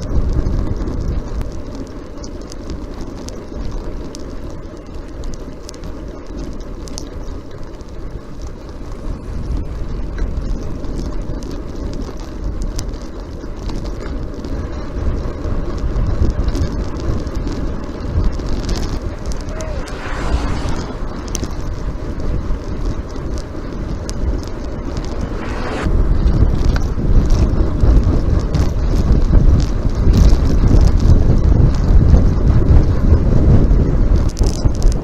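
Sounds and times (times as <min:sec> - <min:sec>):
bicycle road noise: 0:00.0 - 0:35.0
wind rushing over microphone: 0:00.0 - 0:35.0.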